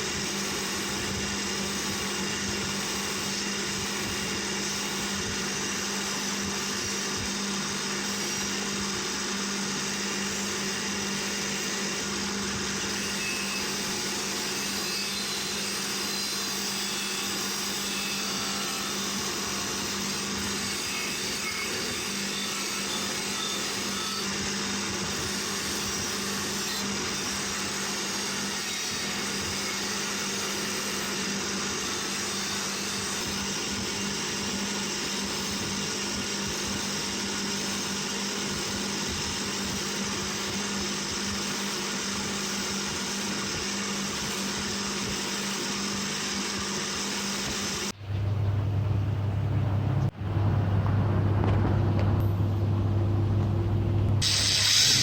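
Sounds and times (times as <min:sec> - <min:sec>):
power tool whining and grinding: 0:00.0 - 0:48.0, 0:54.2 - 0:55.0
motor with low hum: 0:00.0 - 0:55.0.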